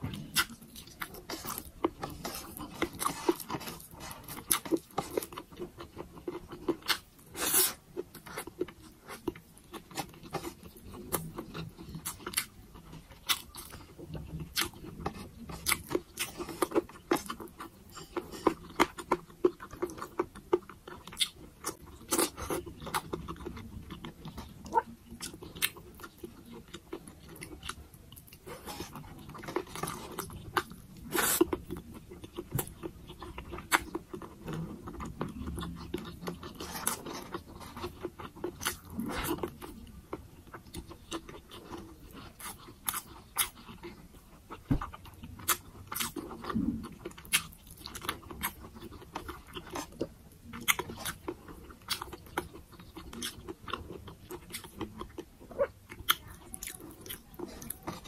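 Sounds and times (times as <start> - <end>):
close chewing mouth sounds: 0.0 - 58.0.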